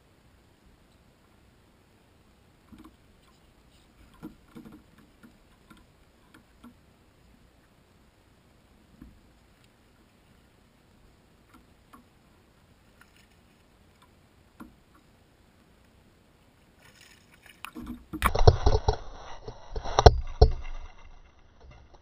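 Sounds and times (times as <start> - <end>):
faint ticks: 2.2 - 7.8, 8.8 - 22.0.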